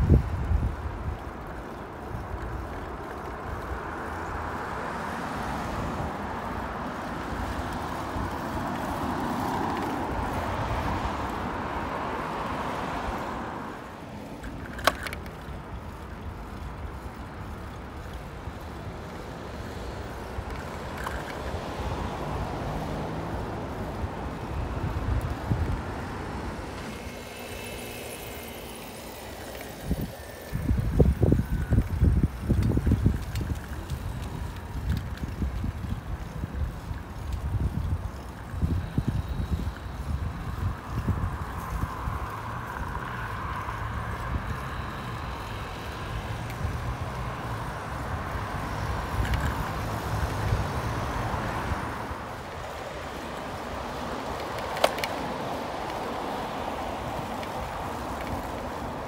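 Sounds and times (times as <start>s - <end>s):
low traffic rumble: 0.0s - 59.0s
passing car tyres and engines: 0.0s - 59.0s.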